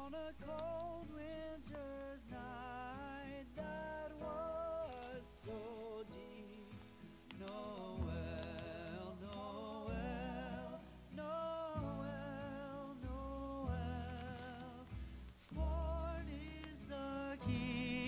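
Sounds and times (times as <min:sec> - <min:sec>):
song with singing voice: 0:00.0 - 0:18.0.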